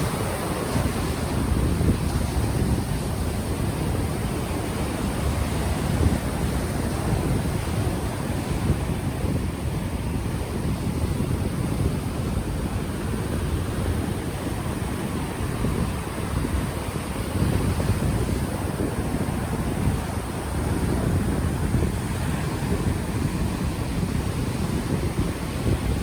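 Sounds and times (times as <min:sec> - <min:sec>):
ocean waves washing on shore: 0:00.0 - 0:26.0
wind buffeting microphone: 0:00.0 - 0:26.0.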